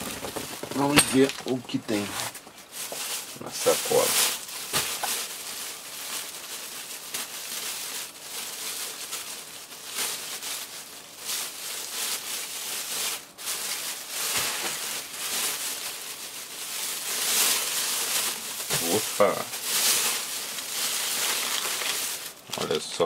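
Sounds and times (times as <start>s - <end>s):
plastic bag crinkling: 0.0s - 23.0s.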